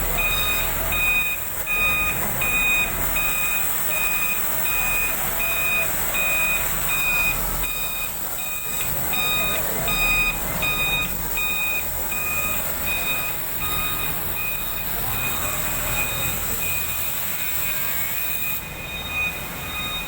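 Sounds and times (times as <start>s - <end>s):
fire alarm beeping: 0.0s - 20.0s
rumbling machine noise: 0.0s - 20.0s.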